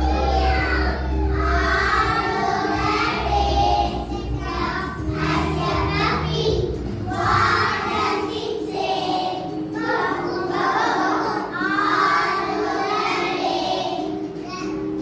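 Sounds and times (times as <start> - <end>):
backing music track: 0.0 - 15.0
children singing in unison: 0.0 - 15.0.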